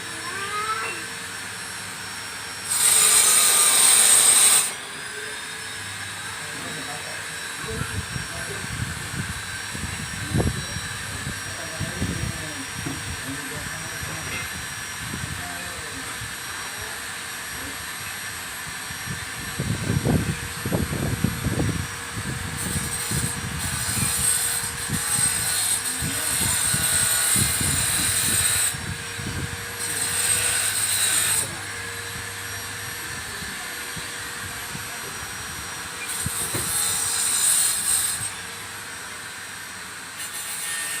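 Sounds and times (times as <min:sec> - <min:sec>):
grinder motor whine: 0:00.0 - 0:41.0.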